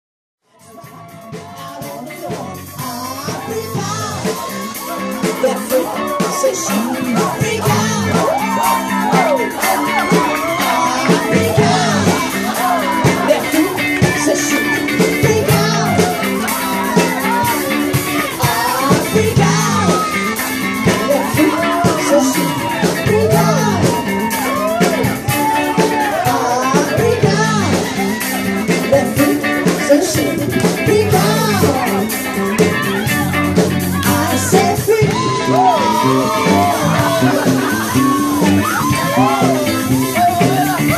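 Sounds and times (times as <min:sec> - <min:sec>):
bass line: 0:00.4 - 0:40.9
guitar: 0:00.4 - 0:40.9
person singing lead vocal: 0:00.5 - 0:40.9
steady drum beat: 0:00.6 - 0:40.9.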